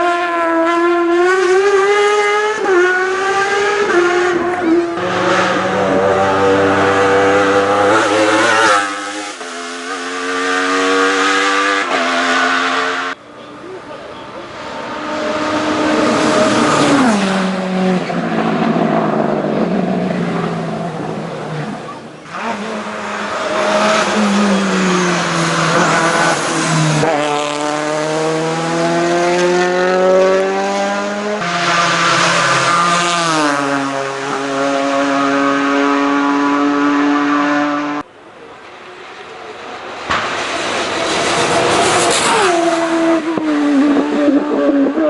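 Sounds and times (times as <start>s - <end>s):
race car engines accelerating: 0.0s - 45.0s.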